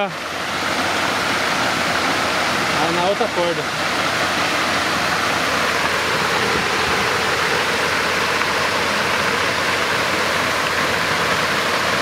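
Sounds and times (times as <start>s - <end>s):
pond aerator churning water: 0.0s - 12.0s.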